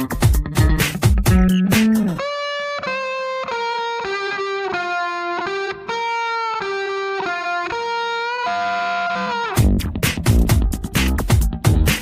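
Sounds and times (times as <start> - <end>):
instrumental melody of held notes: 0.0 - 9.9.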